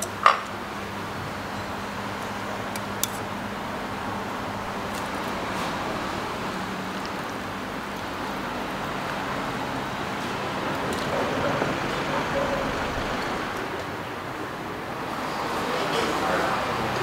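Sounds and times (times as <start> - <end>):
background hubbub: 0.0 - 17.0
traffic rumble: 0.0 - 17.0.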